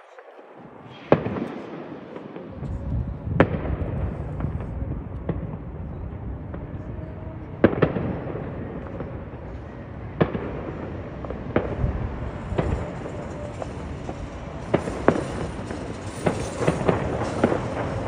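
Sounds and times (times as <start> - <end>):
distant fireworks bangs: 0.7 - 18.0.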